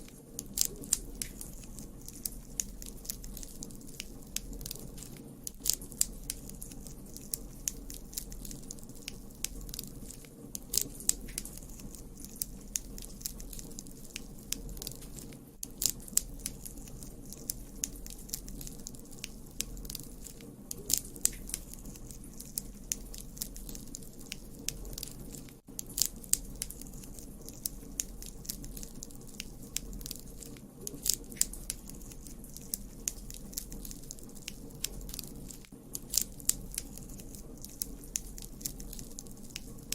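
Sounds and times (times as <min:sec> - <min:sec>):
campfire crackling and popping: 0:00.0 - 0:39.9
low rumble of burning fire: 0:00.0 - 0:39.9.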